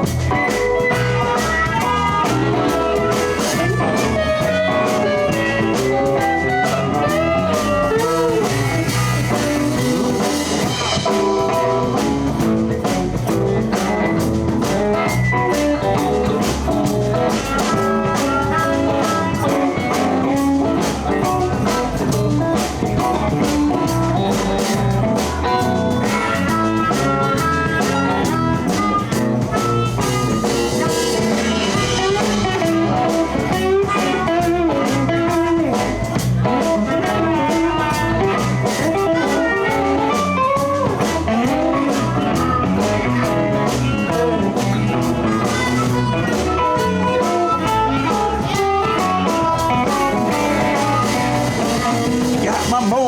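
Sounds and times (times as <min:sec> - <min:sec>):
bass guitar: 0:00.0 - 0:53.0
drum kit beat: 0:00.0 - 0:53.0
electric guitar lines: 0:00.0 - 0:53.0.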